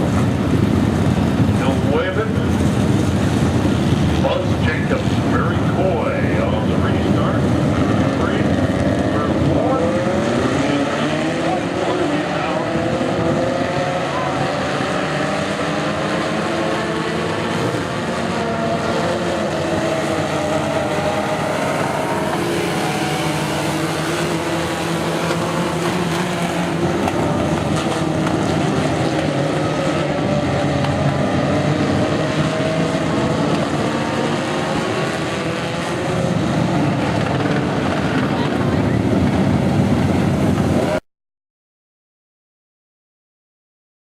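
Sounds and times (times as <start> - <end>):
truck engines revving: 0.0 - 41.0.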